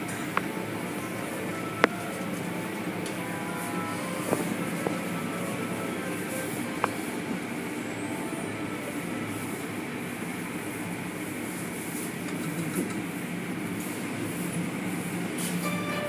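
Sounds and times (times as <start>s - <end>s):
car wash machinery rumbling: 0.0s - 16.0s.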